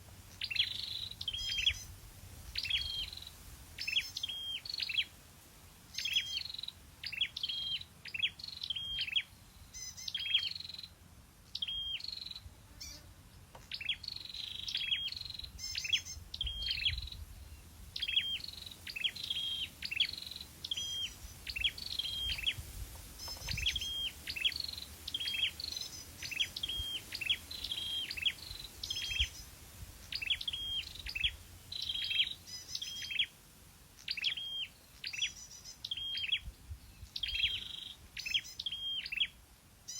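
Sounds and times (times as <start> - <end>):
bird chirping: 0.3 - 1.9, 2.5 - 5.1, 5.9 - 10.9, 11.5 - 13.0, 13.6 - 22.6, 23.2 - 33.3, 34.0 - 39.9.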